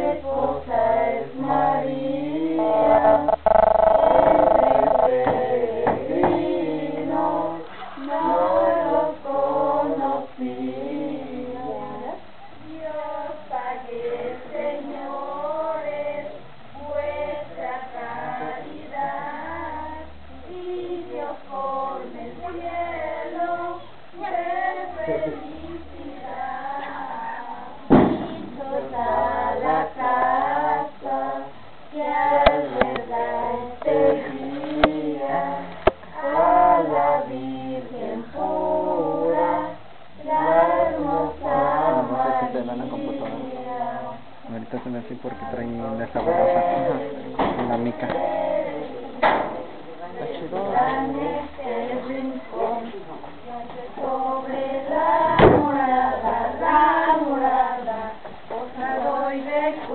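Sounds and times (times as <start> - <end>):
group of voices singing: 0.0 - 59.9.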